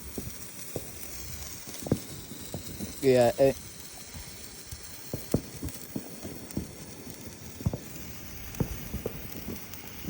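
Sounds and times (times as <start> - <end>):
firework hissing and popping: 0.0 - 10.0.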